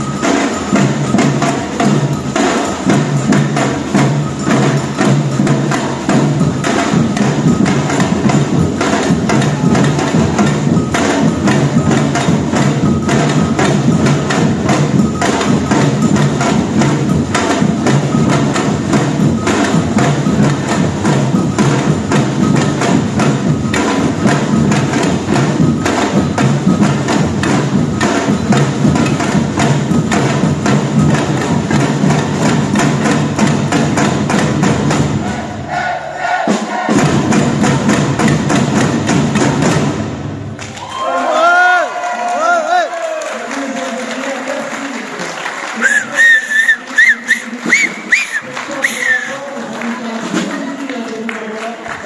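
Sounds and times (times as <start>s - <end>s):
percussion band drumming: 0.0s - 52.0s.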